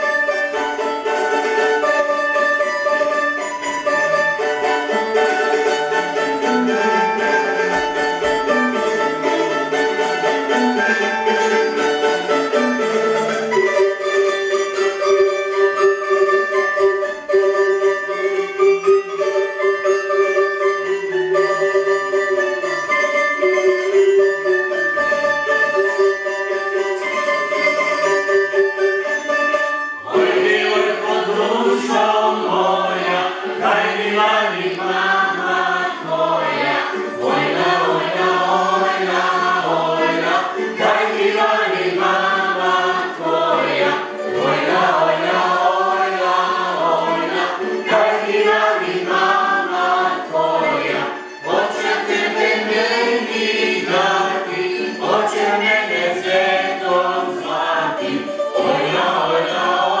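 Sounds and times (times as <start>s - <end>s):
group singing folk song: 0.0s - 22.8s, 29.9s - 60.0s.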